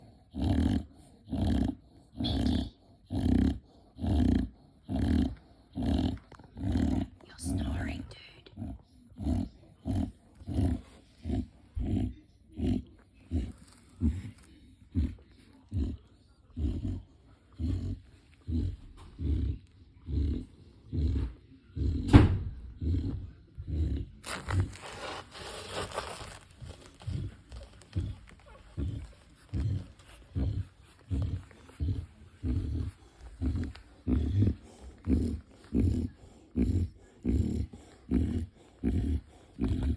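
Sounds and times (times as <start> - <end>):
rapid rattly snoring: 0.0 - 39.9.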